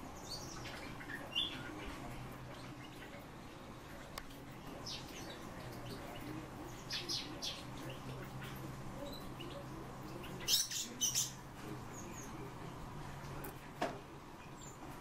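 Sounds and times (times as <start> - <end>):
faint low hum: 0.0 - 15.0
songbirds chirping: 0.0 - 15.0.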